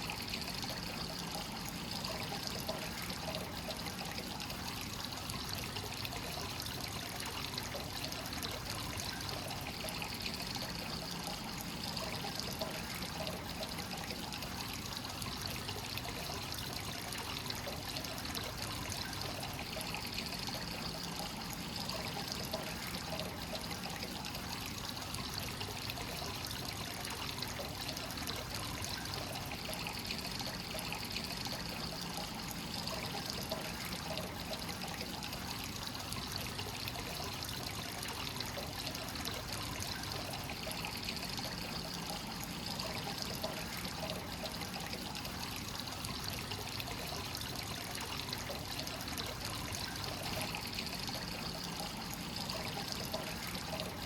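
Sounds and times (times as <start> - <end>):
water pouring into a bath: 0.0 - 54.0.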